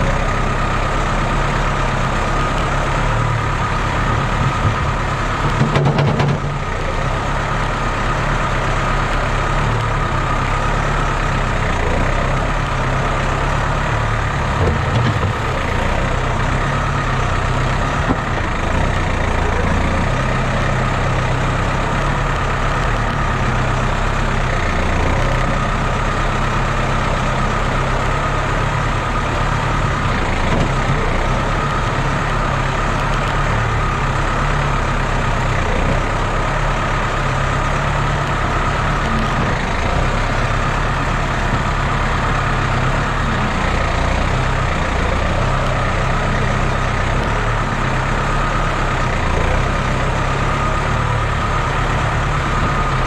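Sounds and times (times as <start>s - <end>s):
front loader scooping manure: 0.0s - 53.0s
tractor diesel engine running: 0.0s - 53.0s.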